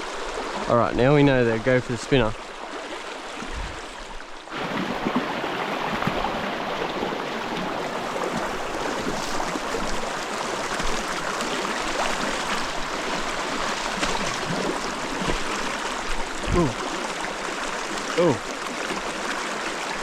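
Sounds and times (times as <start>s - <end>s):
stream water running over rocks: 0.0s - 20.0s.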